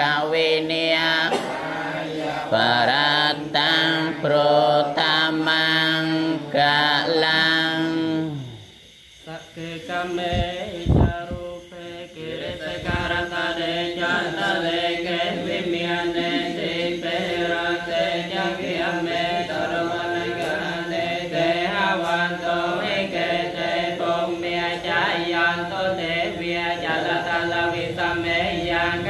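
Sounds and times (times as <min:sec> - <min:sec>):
monks chanting together: 0:00.0 - 0:08.6, 0:09.2 - 0:29.0.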